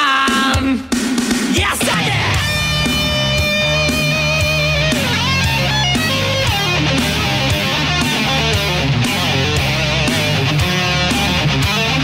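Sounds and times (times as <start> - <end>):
rock music electric guitar lead: 1.5 - 12.0.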